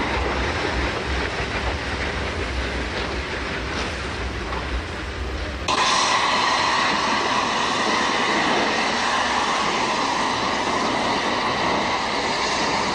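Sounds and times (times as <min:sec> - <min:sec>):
locomotive running noise: 0:00.0 - 0:12.9
steam hissing: 0:00.0 - 0:12.9.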